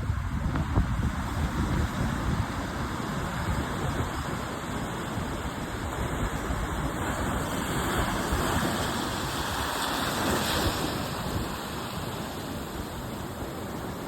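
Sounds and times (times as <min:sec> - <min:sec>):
sea waves washing onto shore: 0:00.0 - 0:14.0
wind buffeting microphone: 0:00.0 - 0:14.0.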